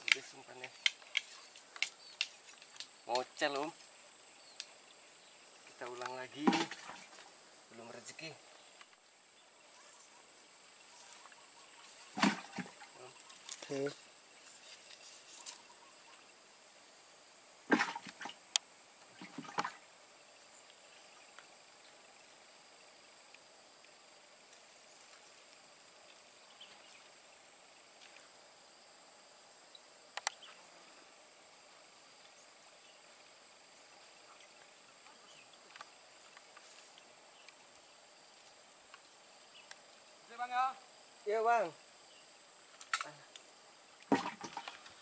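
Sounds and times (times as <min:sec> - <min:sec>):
insects buzzing: 0:00.0 - 0:45.0.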